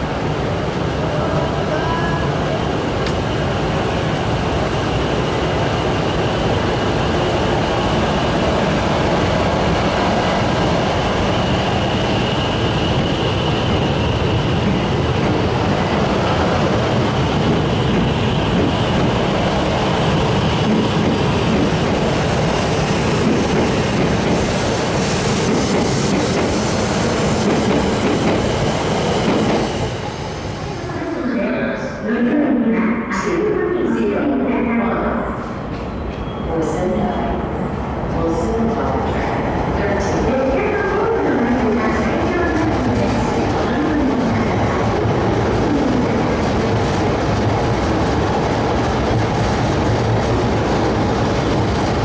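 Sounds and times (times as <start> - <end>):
train running past slowly: 0.0 - 52.0.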